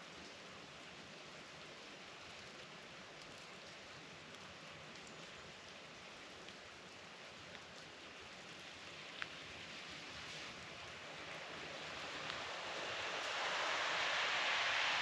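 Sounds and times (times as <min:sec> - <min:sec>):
sleet and wet snow falling: 0:00.0 - 0:15.0.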